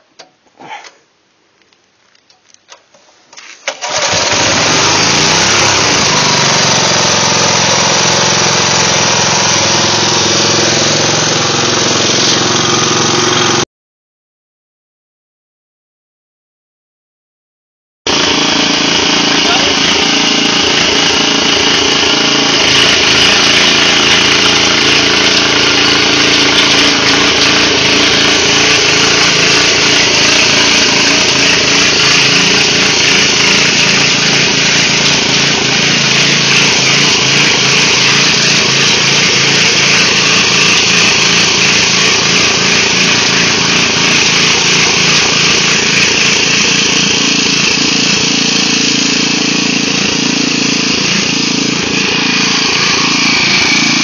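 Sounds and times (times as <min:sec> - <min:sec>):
tines churning soil: 0:03.4 - 0:13.6, 0:18.1 - 0:54.0
rototiller engine running: 0:03.7 - 0:13.6, 0:18.1 - 0:54.0.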